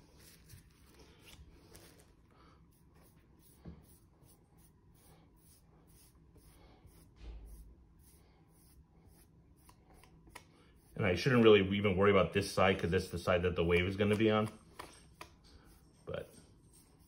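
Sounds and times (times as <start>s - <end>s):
paintbrush swishing: 0.0s - 2.0s, 2.7s - 17.0s.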